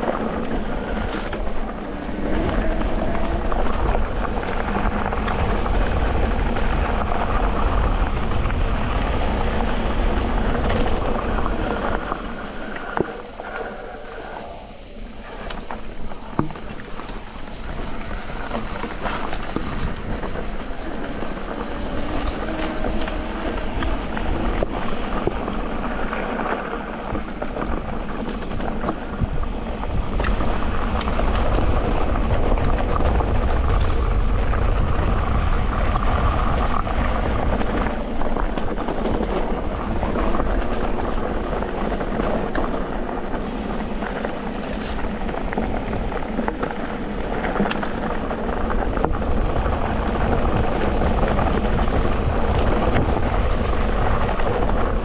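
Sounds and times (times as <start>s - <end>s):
bike clicks and rattles: 0.0s - 14.6s, 15.2s - 55.0s
bike tyres rolling on dirt: 0.0s - 55.0s.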